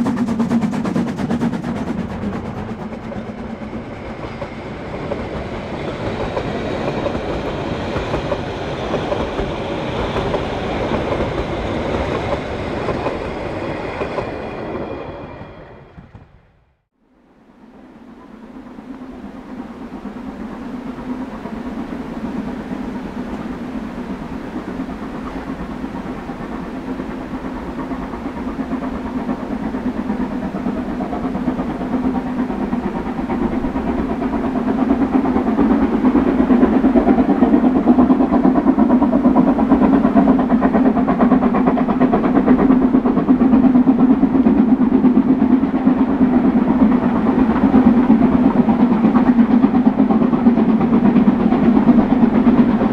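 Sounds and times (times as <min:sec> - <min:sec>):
train running: 0:00.0 - 0:52.9.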